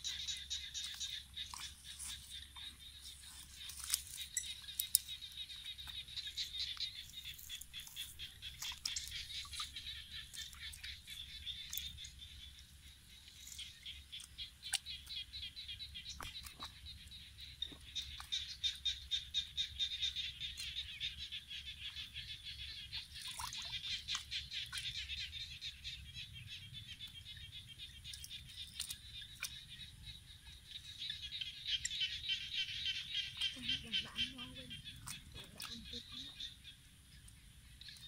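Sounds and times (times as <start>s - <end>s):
muddy water splashes: 0.0s - 38.0s.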